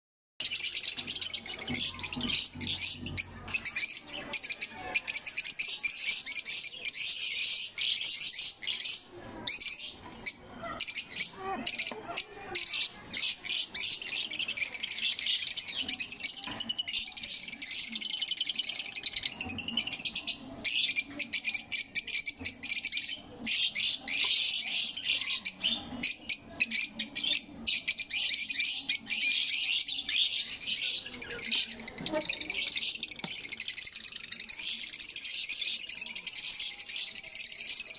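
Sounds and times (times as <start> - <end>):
lovebirds chattering: 0.4 - 37.9.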